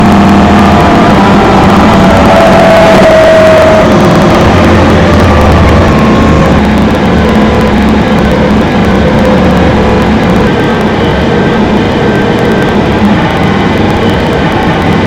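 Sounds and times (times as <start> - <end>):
faint humming whine: 0.0 - 15.0
train rumbling: 0.0 - 15.0.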